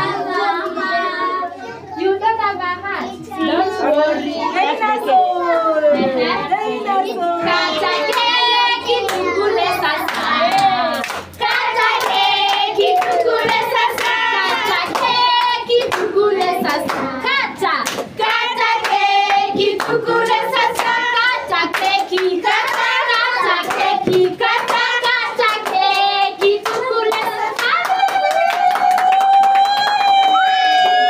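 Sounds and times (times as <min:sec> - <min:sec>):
group of people singing: 0:00.0 - 0:02.0, 0:03.4 - 0:27.9.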